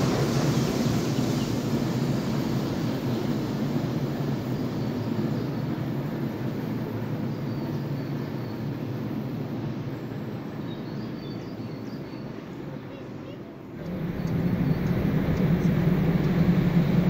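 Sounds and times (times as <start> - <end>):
train wheels rolling on rail: 0.0 - 12.9, 13.6 - 17.0.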